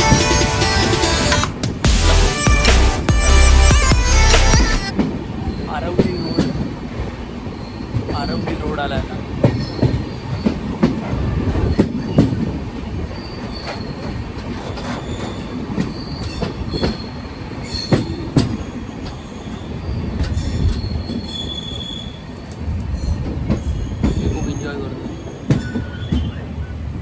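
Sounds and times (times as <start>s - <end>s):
high wheel squeals: 0.0s - 12.3s, 13.1s - 26.8s
train coaches rumbling: 0.0s - 27.0s.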